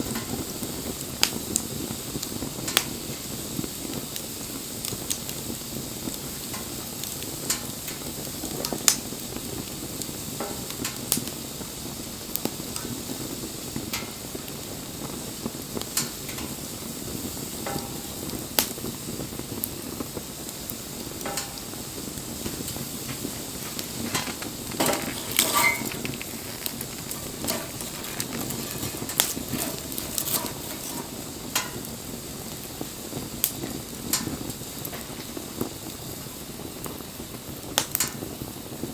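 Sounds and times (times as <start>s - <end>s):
fire crackles and pops: 0.0s - 38.9s
hiss of bonfire flames: 0.0s - 38.9s.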